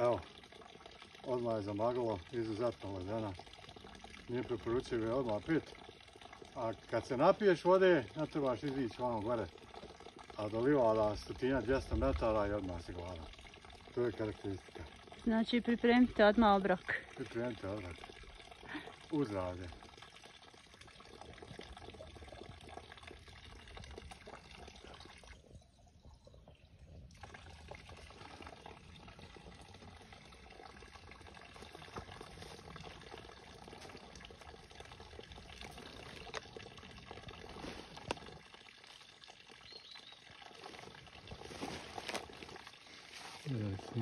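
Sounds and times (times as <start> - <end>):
water trickling and splashing: 0.0 - 44.0.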